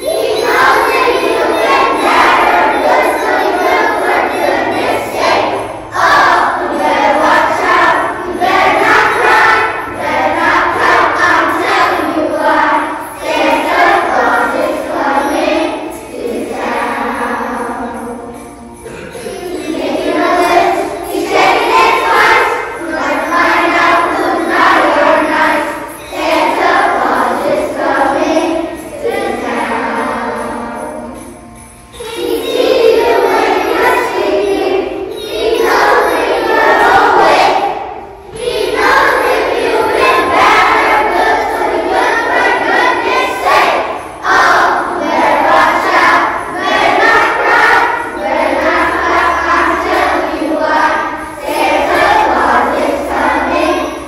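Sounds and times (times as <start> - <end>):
children singing: 0.0 - 54.0
music with jingling bells: 0.0 - 54.0.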